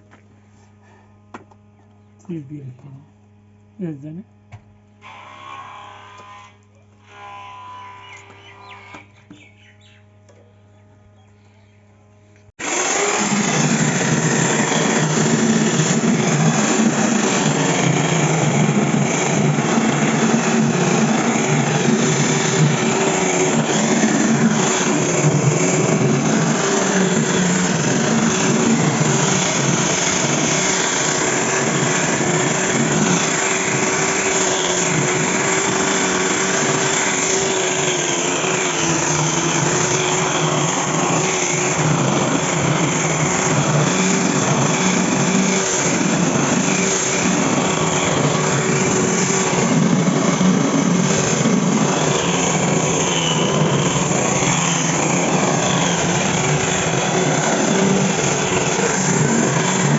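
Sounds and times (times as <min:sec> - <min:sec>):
angle grinder grinding wood: 0:05.0 - 0:09.8, 0:12.6 - 0:59.9.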